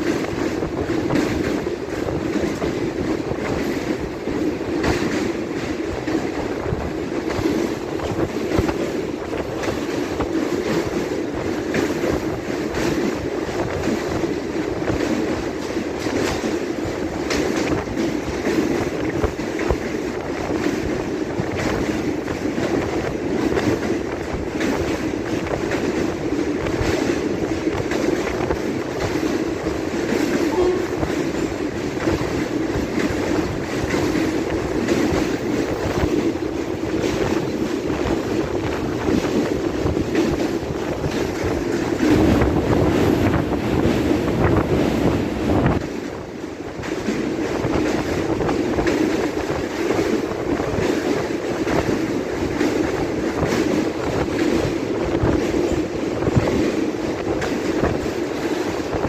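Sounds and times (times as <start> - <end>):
train wheels rumbling on rail: 0.0 - 59.0
wheels clicking over rail joints: 0.0 - 59.0.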